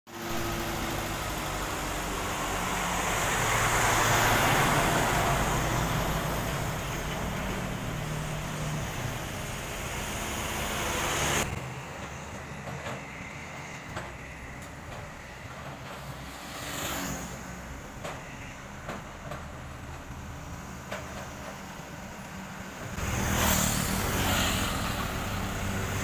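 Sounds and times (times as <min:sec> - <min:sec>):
distant traffic: 0:00.1 - 0:26.0
traffic driving past: 0:00.1 - 0:26.0.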